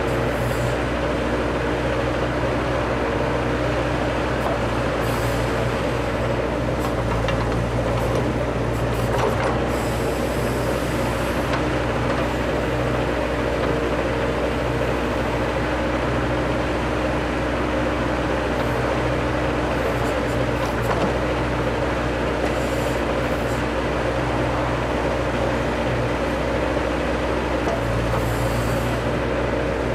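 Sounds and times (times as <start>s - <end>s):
backhoe digging: 0.0s - 29.9s
diesel engine running: 0.0s - 29.9s.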